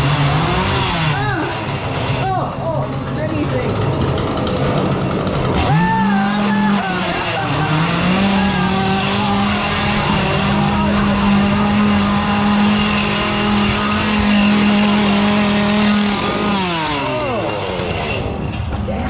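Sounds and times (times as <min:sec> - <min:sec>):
chainsaw engine buzzing: 0:00.0 - 0:18.9.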